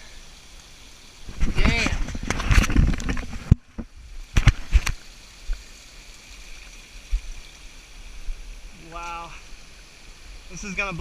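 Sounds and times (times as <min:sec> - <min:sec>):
creek and waterfalls rushing: 0:00.0 - 0:11.0.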